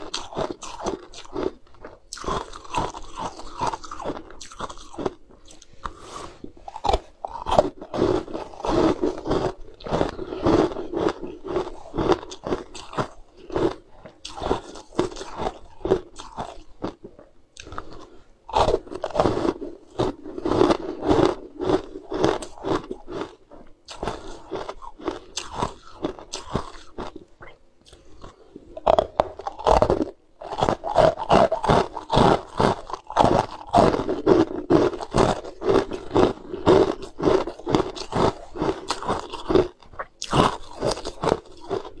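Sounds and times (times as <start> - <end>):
person crunching ice: 0.0 - 17.0, 17.6 - 27.2, 28.2 - 42.0.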